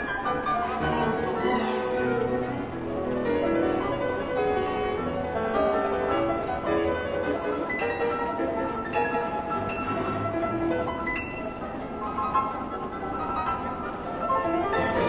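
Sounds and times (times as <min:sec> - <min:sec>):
classical piano music: 0:00.0 - 0:15.0.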